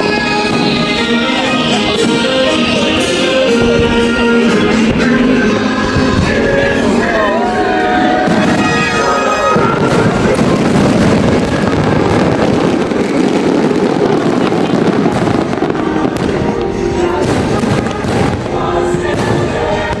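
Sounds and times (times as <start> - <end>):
fireworks bursting and crackling: 0.0 - 20.0
show music soundtrack: 0.0 - 20.0.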